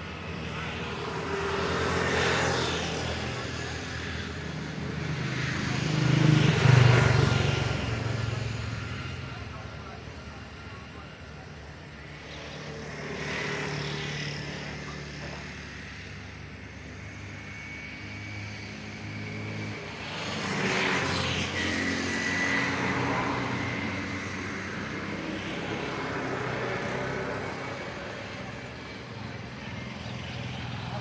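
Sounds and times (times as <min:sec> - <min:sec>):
steady engine hum: 0:00.0 - 0:31.0.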